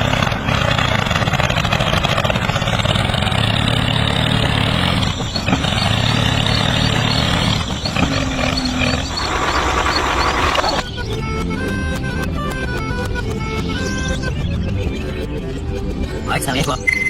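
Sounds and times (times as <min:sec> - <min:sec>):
small engine running: 0:00.0 - 0:16.8.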